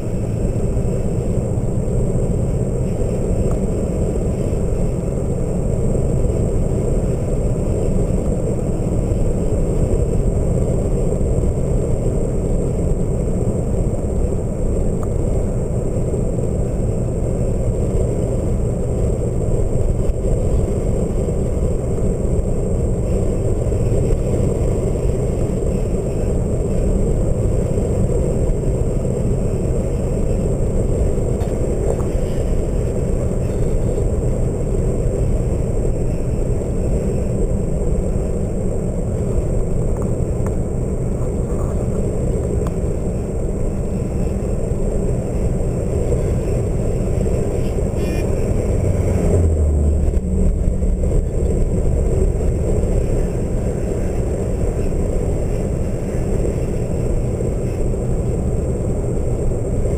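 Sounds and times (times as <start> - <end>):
vehicle road noise: 0.0 - 59.9
wind buffeting microphone: 0.0 - 59.9.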